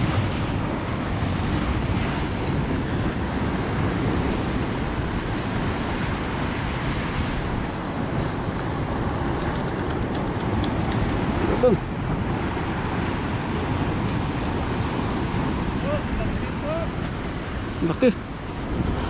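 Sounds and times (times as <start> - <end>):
surf against rocky shore: 0.0 - 19.0
wind buffeting microphone: 0.0 - 19.0.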